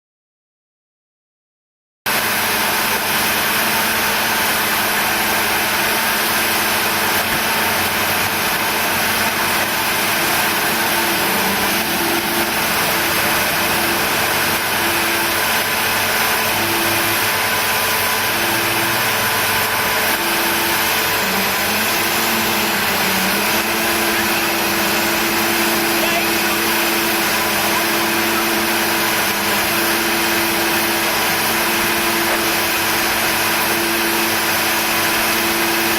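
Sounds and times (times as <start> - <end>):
train engine running: 2.1 - 35.9
machinery hum: 2.4 - 34.7.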